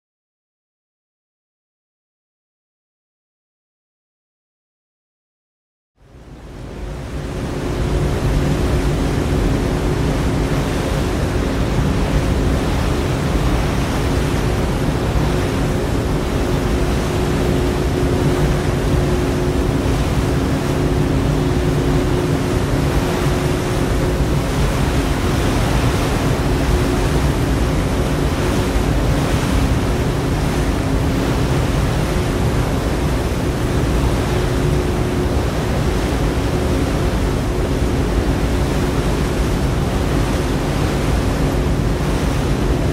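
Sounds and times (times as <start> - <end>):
low engine drone: 6.0 - 42.9
wind: 6.0 - 42.9
wash of water: 6.8 - 42.9.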